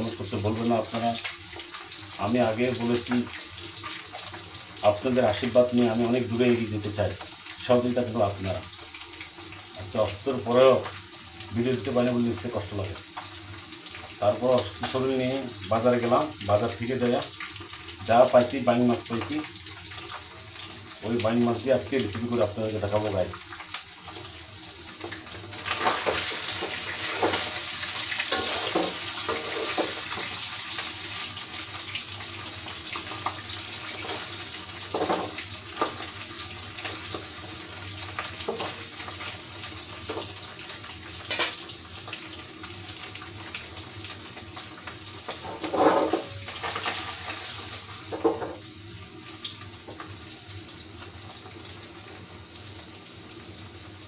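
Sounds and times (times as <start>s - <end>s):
fish sizzling in oil: 0.0s - 54.0s.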